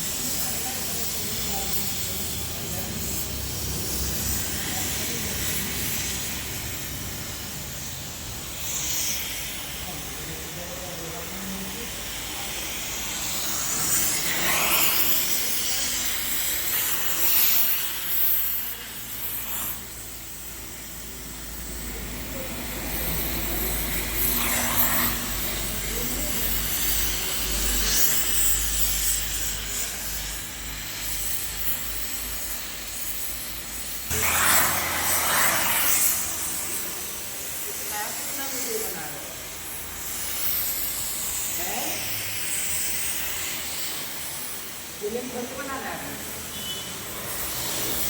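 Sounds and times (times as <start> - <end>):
welding hiss: 0.0 - 48.0.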